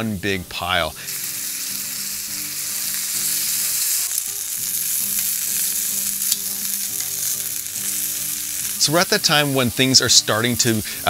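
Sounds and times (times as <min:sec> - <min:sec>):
food sizzling on a griddle: 0:00.9 - 0:11.0.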